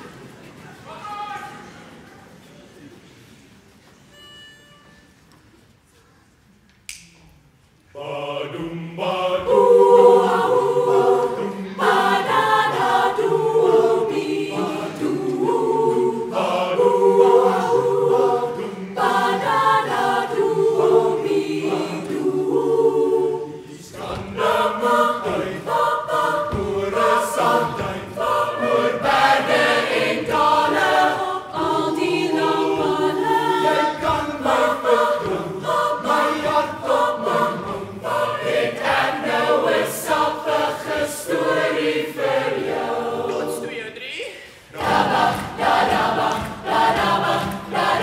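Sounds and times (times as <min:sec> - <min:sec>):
choir singing in harmony: 0:07.9 - 0:48.0.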